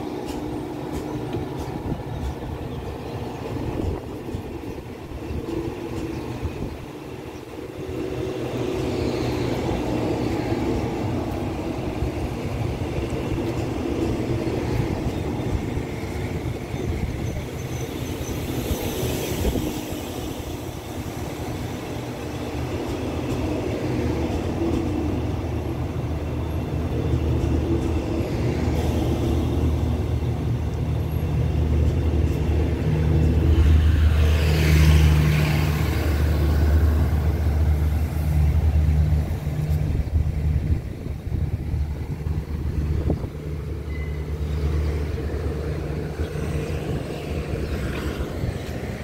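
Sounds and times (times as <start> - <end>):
passenger train rolling past: 0.0 - 49.0
train hiss: 0.0 - 49.0.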